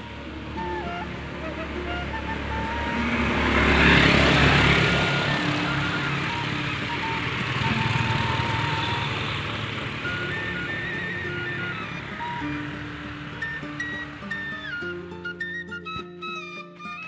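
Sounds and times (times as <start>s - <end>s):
background music with held notes: 0.0s - 17.0s
vehicle engine and road noise passing: 0.0s - 17.0s.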